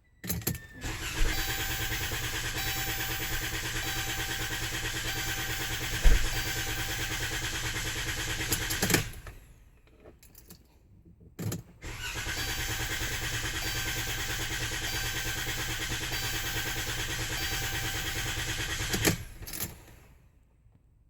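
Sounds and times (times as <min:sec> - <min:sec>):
starter cranking engine: 0:00.4 - 0:09.5, 0:11.8 - 0:20.0.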